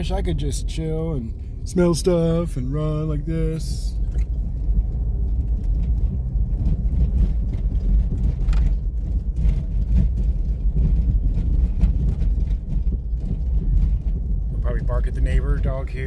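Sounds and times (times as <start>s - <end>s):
vehicle driving rumble: 0.0s - 16.0s.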